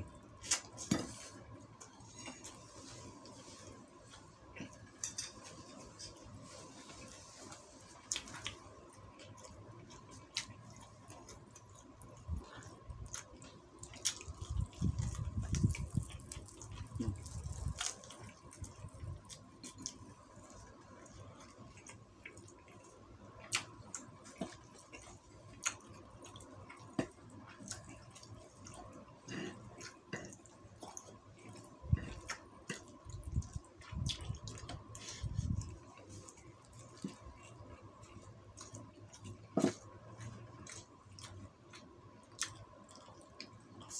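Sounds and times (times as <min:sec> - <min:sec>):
wet chewing: 0:08.0 - 0:43.9.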